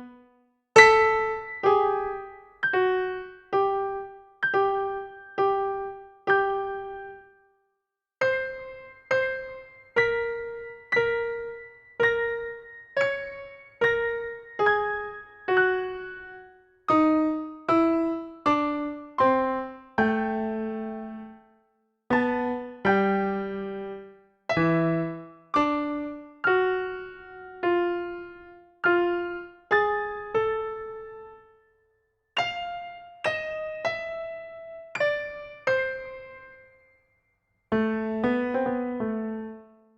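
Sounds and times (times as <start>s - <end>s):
slow keyboard melody: 0.0s - 31.8s, 32.4s - 37.1s, 37.7s - 39.9s.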